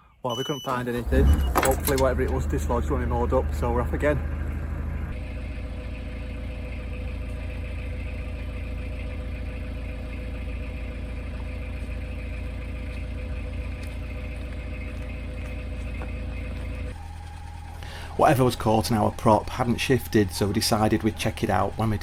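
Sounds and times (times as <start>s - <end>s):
diesel boat engine throbbing: 0.8s - 22.0s.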